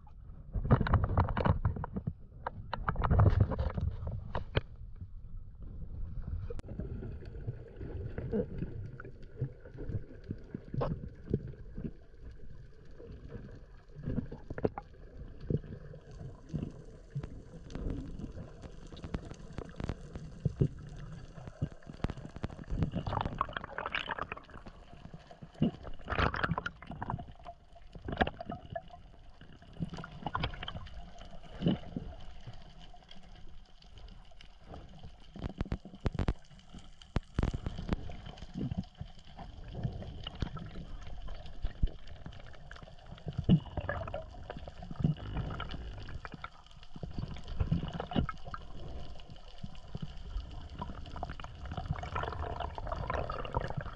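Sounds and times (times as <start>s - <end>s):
low underwater rumble: 0.0s - 53.9s
water gurgling and sloshing: 0.0s - 53.9s
water gushes: 6.7s - 53.9s.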